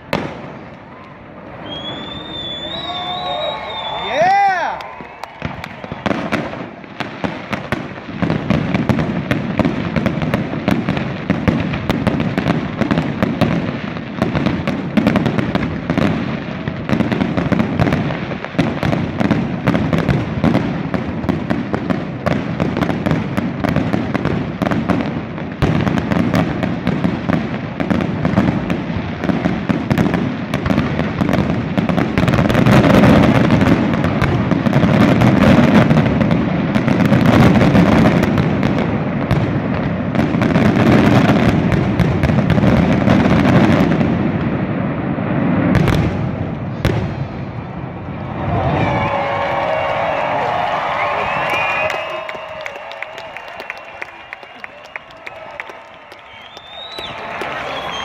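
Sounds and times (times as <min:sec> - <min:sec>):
fireworks cracking and banging: 0:00.0 - 0:58.0.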